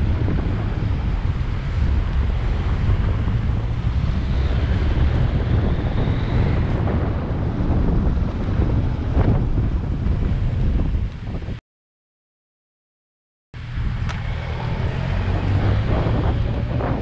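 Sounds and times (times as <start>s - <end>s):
road traffic noise: 0.0s - 11.5s, 13.6s - 17.0s
wind rumbling on microphone: 0.0s - 11.6s, 13.6s - 17.0s.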